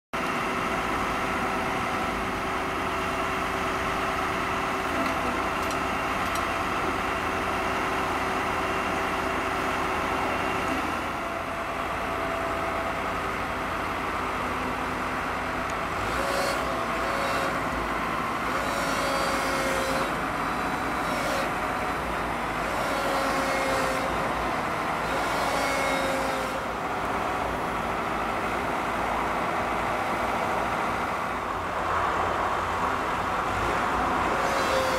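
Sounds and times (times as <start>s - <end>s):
diesel engines running: 0.2s - 34.9s.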